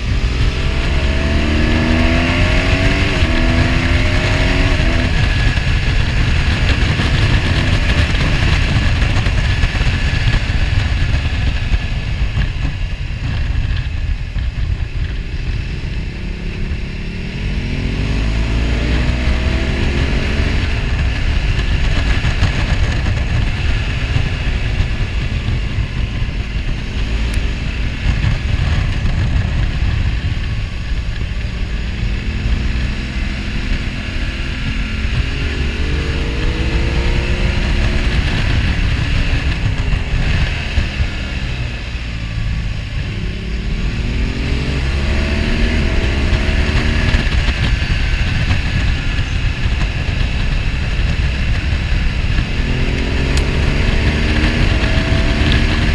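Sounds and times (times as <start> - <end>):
motorcycle engine revving: 0.0 - 55.9
wind noise: 0.0 - 55.9.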